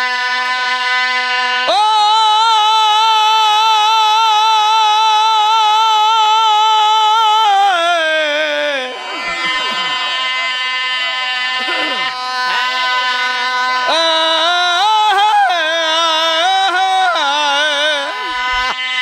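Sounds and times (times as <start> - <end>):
man singing long vibrato note: 0.0 - 19.0
steady drone tone: 0.0 - 19.0.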